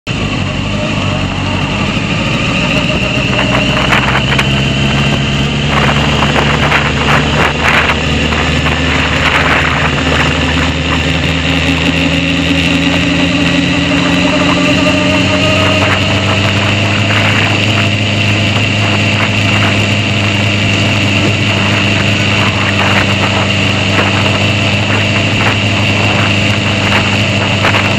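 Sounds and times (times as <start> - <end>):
motorcycle engine at low revs: 0.1 - 27.9.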